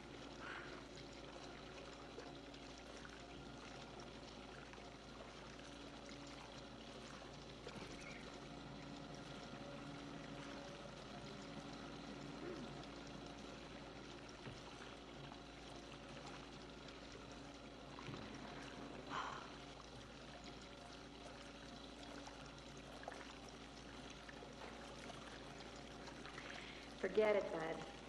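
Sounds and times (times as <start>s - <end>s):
hot tub water rushing: 0.0s - 28.0s.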